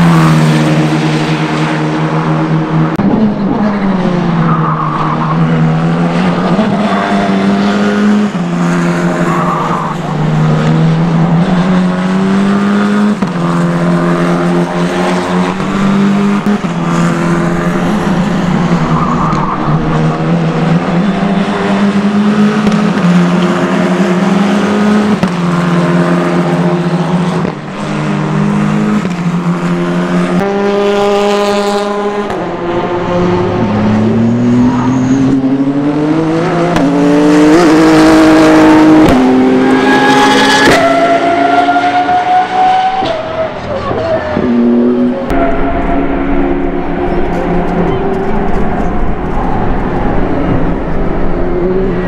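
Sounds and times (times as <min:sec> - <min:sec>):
car accelerating hard: 0:00.0 - 0:52.0
race car engines with gear changes: 0:00.0 - 0:52.0.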